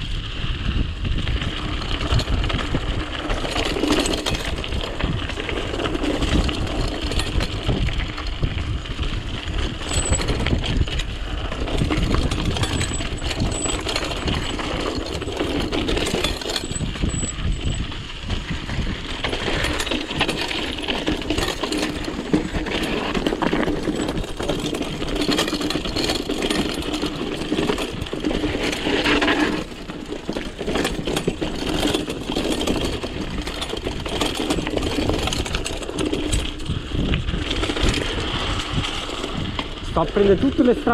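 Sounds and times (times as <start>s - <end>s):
bike chain and frame rattling: 0.0s - 40.9s
tyre noise on dirt: 0.0s - 40.9s
wind rumbling on microphone: 0.0s - 40.9s.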